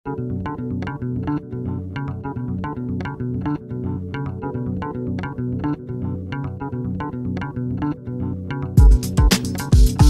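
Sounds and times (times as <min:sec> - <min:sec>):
rhythmic pitched notes: 0:00.0 - 0:10.0
low bass line: 0:00.1 - 0:10.0.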